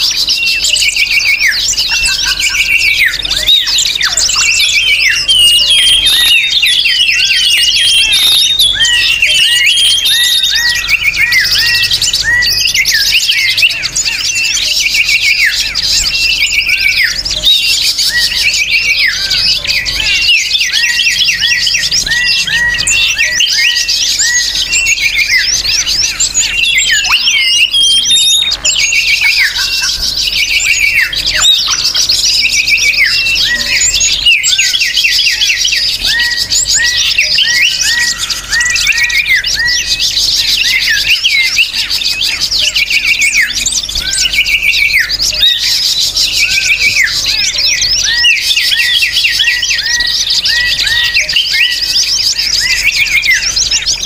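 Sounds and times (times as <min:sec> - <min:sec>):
songbirds chirping and twittering: 0:00.0 - 0:54.0.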